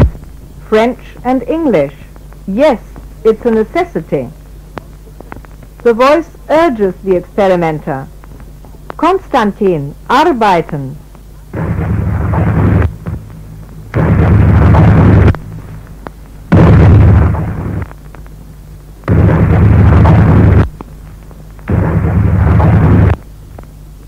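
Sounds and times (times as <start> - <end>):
low hum: 0.0 - 24.0
rough static noise bursts: 0.0 - 24.0.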